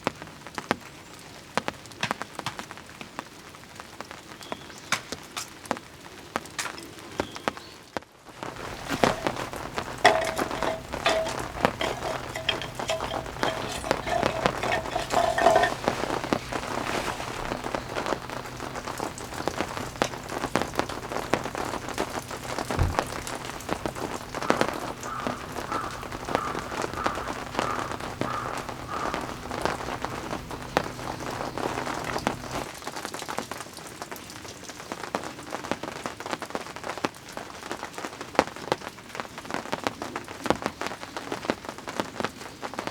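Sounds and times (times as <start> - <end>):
rain pattering: 0.0 - 42.9.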